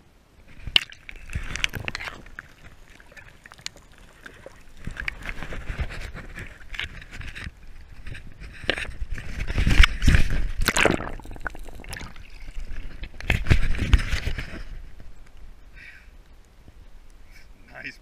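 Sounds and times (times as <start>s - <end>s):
water sloshing around a kayak: 0.4s - 15.2s.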